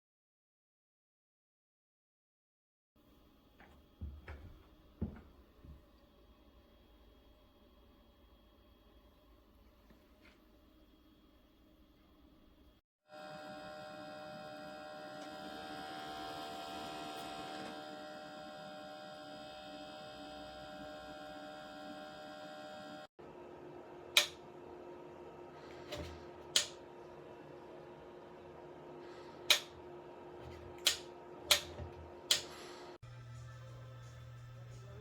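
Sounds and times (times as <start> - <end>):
appliance electrical hum: 3.0 - 35.0.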